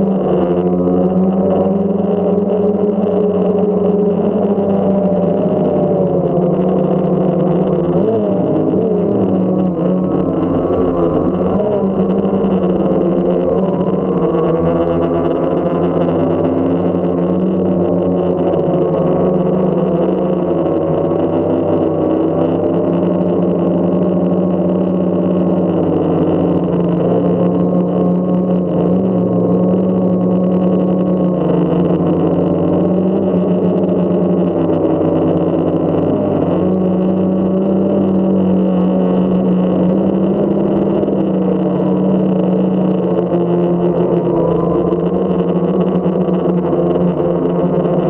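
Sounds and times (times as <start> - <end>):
drone motors humming: 0.0 - 48.0.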